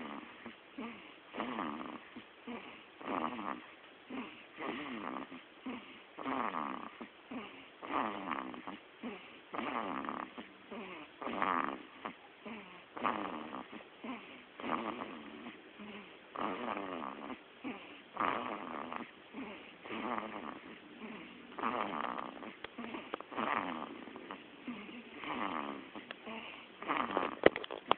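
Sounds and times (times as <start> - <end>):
baby snoring: 0.0 - 27.9.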